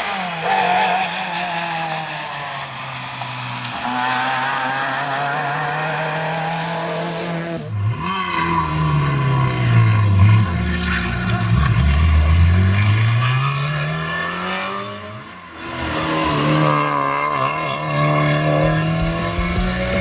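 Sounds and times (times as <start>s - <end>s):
rally car engines accelerating: 0.0s - 20.0s.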